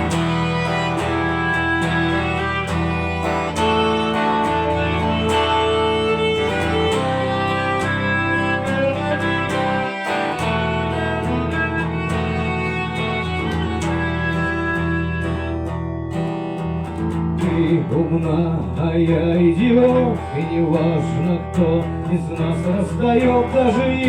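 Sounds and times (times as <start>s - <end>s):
bass: 0.0s - 24.0s
singing lead guitar melody: 0.0s - 24.0s
strummed guitar chords: 0.0s - 24.0s.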